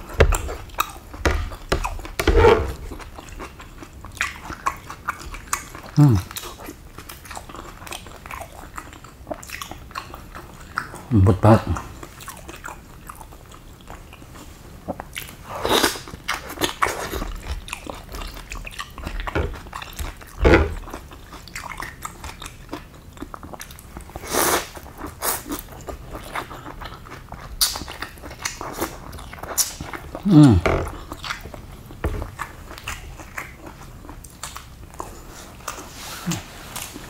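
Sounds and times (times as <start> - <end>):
chewing: 0.0 - 37.0.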